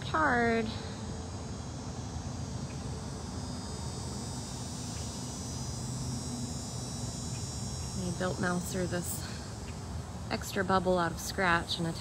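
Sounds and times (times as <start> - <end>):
insects trilling: 0.0 - 12.0
low even hum: 0.0 - 12.0.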